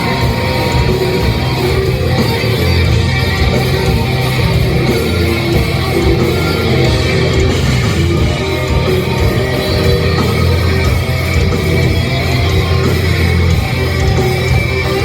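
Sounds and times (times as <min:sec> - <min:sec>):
live metal band playing: 0:00.0 - 0:15.0.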